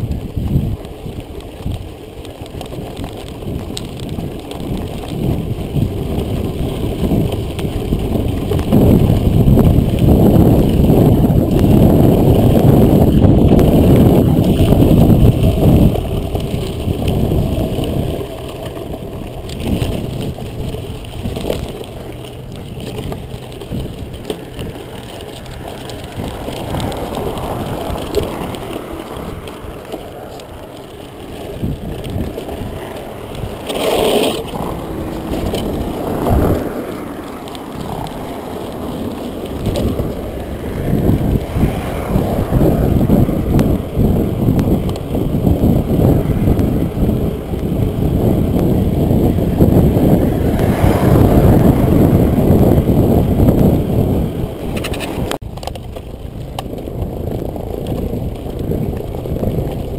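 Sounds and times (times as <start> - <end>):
bike tyre and frame rattle: 0.0 - 59.9
wind rushing over microphone: 0.0 - 59.9.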